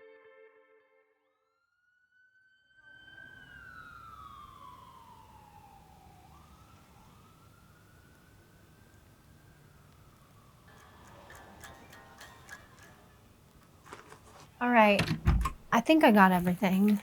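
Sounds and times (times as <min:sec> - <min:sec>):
faint siren wailing: 0:02.5 - 0:17.0
low steady background hiss: 0:03.3 - 0:17.0.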